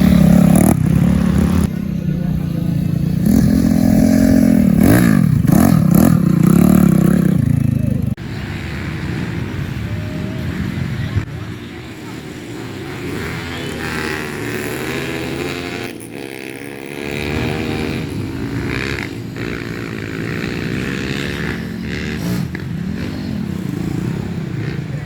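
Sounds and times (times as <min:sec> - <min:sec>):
motorcycle engines racing: 0:00.0 - 0:25.0.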